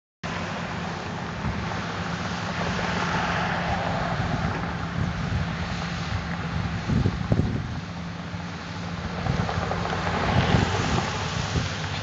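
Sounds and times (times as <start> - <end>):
diesel engine running under load: 0.2 - 12.0
wind buffeting microphone: 0.8 - 12.0.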